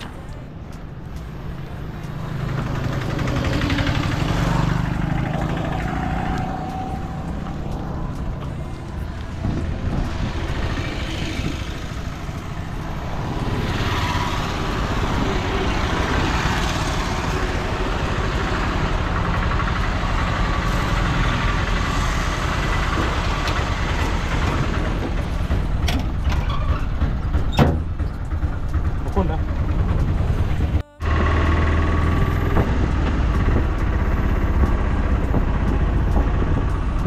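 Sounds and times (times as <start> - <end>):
road noise: 0.0 - 37.0
vehicle engine running: 0.0 - 37.0.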